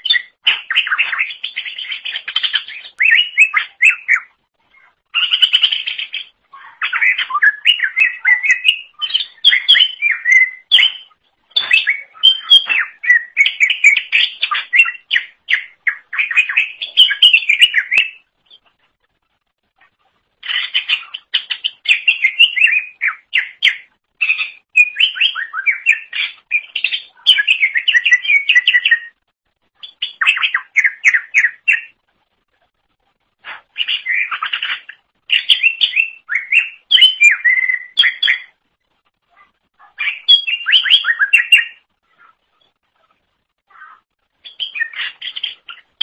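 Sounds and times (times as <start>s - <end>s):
bird singing chattering song: 0.0s - 18.8s, 20.4s - 32.0s, 33.5s - 38.6s, 39.8s - 42.8s, 43.7s - 46.0s.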